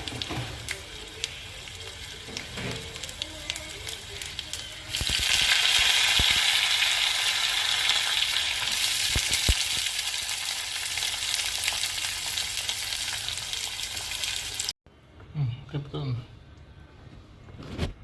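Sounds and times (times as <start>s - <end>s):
food sizzling in hot oil: 0.0s - 14.8s.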